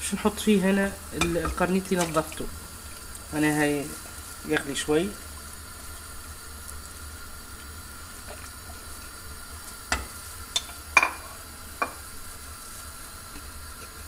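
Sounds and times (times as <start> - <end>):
water bubbling at a boil: 0.0 - 14.0.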